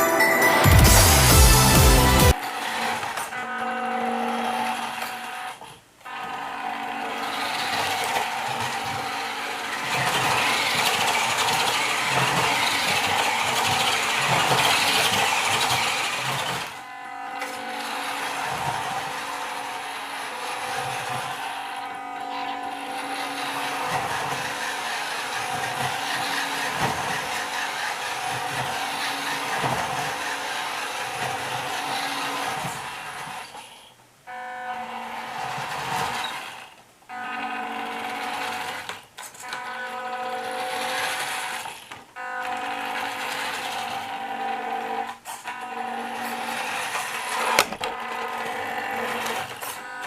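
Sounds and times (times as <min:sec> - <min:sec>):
toy truck electric motor and gearbox: 0:01.0 - 0:34.0, 0:34.6 - 0:50.0.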